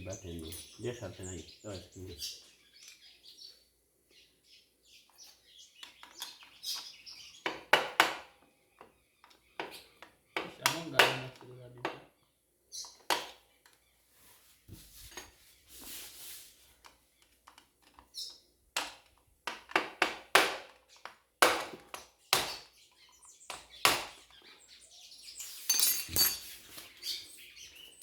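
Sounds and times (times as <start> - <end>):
birds chirping: 0.0 - 14.6, 15.3 - 19.2, 20.8 - 28.0.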